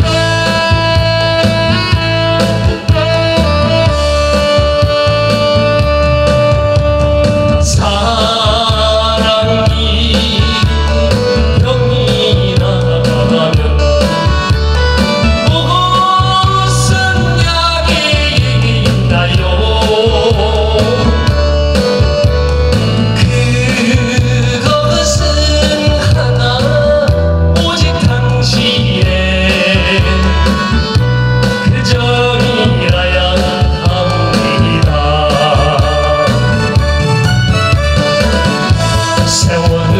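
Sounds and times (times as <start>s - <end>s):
man singing into microphone: 0.0s - 22.0s, 23.0s - 37.0s, 38.6s - 39.9s
instrumental accompaniment: 0.0s - 39.9s.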